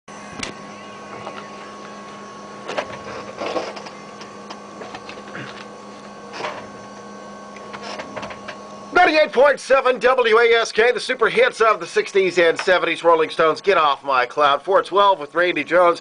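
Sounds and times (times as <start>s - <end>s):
electrical hum: 0.1s - 16.0s.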